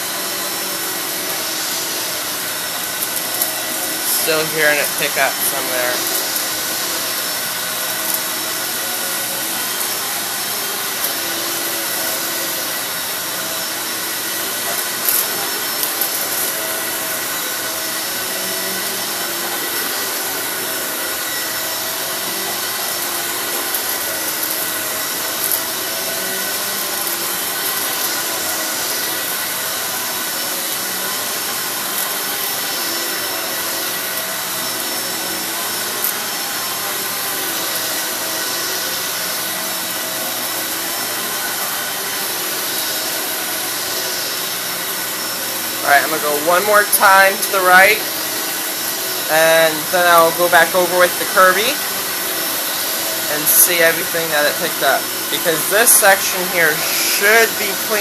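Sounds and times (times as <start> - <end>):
vacuum cleaner running on carpet: 0.0 - 58.0.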